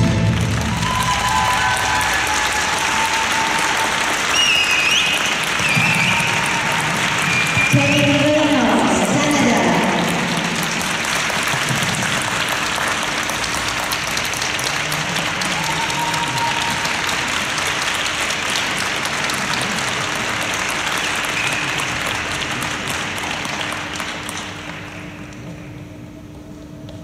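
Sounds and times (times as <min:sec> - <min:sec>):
audience applauding: 0:00.0 - 0:25.5.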